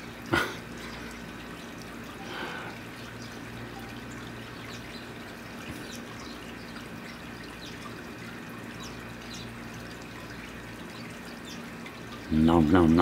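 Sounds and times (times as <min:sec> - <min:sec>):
water trickling: 0:00.0 - 0:13.0
small birds chirping: 0:00.6 - 0:13.0.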